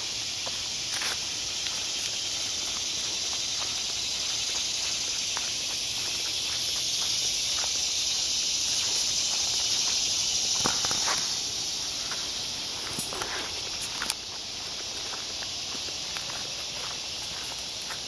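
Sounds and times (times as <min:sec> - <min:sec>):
cicadas buzzing: 0:00.0 - 0:18.0
footsteps on leafy dirt trail: 0:00.0 - 0:18.0.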